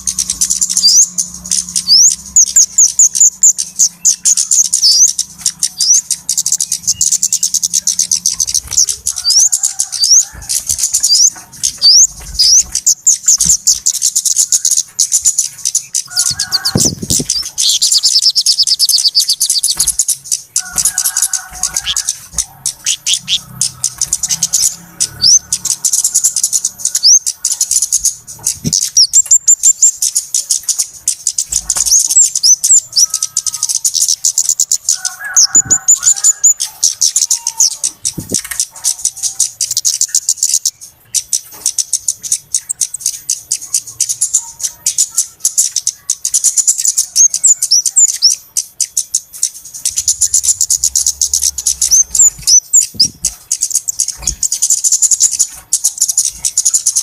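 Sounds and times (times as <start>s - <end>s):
birds chirping rapidly: 0.0s - 57.0s.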